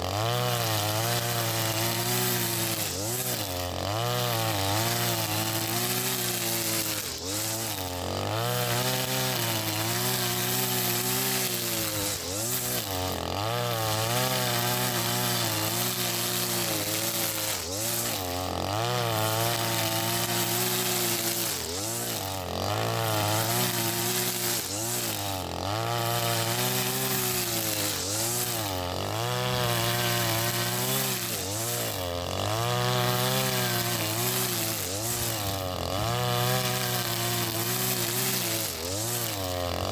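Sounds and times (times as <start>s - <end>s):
brush cutter cutting grass: 0.0s - 39.9s.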